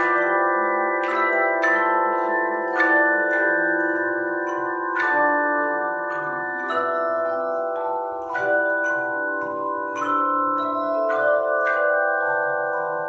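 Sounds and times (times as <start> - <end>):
handbell choir ringing: 0.0 - 13.0.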